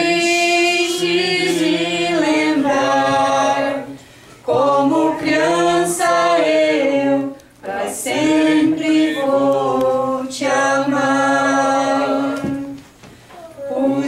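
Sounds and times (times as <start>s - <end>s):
women and girls singing a cappella: 0.0s - 14.0s.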